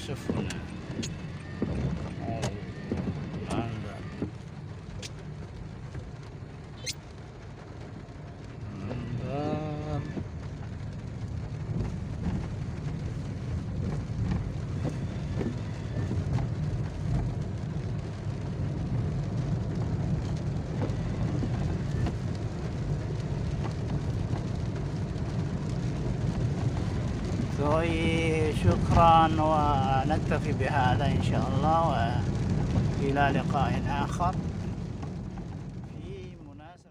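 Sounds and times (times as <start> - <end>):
car driving on wet road: 0.0 - 36.9
rain: 0.0 - 36.9.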